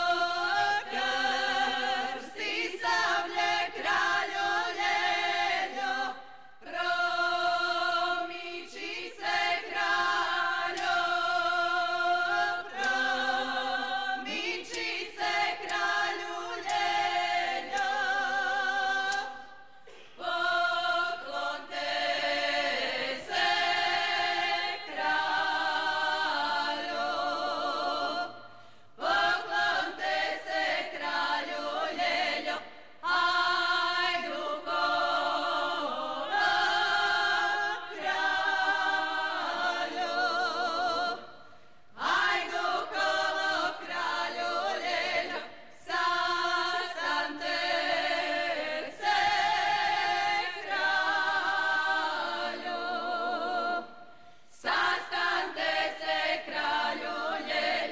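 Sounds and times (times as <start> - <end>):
women's choir singing in harmony: 0.0 - 57.9.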